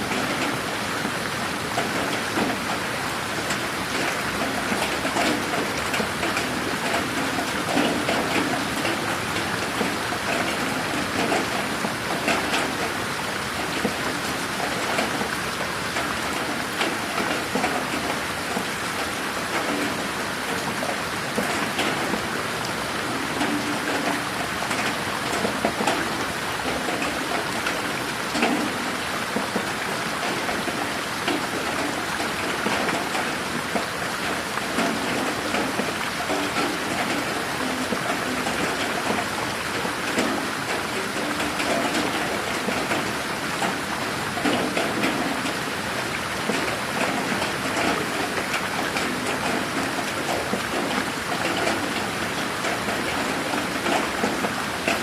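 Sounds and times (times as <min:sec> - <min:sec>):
rain falling: 0:00.0 - 0:55.0
raindrops pattering on surfaces: 0:00.0 - 0:55.0.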